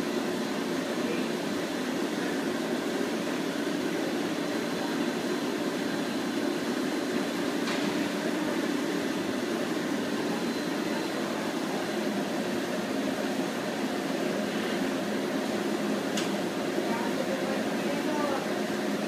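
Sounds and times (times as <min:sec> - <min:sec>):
dishwasher running with whine: 0:00.0 - 0:19.0.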